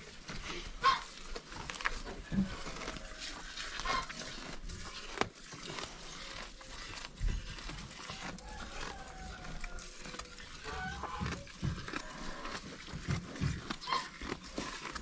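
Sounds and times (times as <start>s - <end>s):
calves munching grass: 0.0s - 15.0s.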